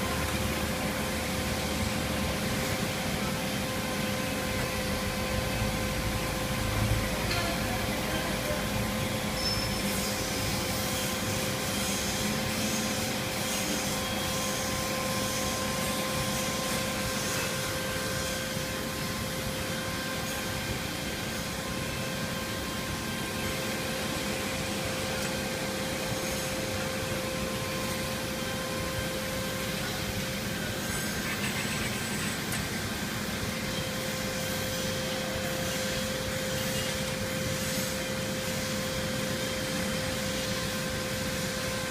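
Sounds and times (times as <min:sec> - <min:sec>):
production line machine hum: 0:00.0 - 0:41.9.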